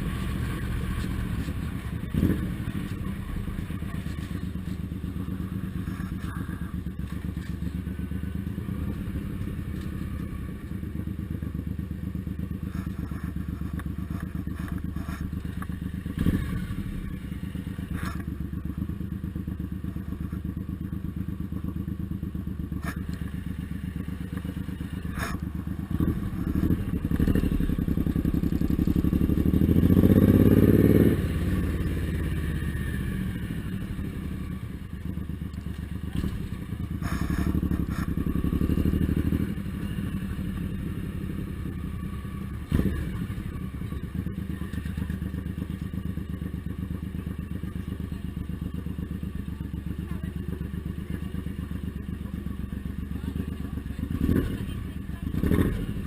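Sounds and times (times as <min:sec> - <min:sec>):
motorcycle engine running and revving: 0:00.0 - 0:56.0.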